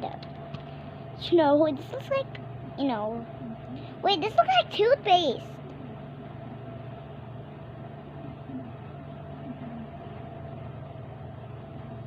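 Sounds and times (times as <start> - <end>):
low mechanical hum: 0.0 - 12.0
thin steady whine: 0.0 - 12.0.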